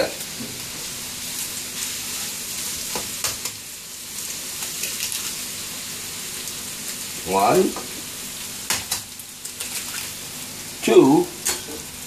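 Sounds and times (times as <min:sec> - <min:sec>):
food stir-frying in oil: 0:00.0 - 0:12.0.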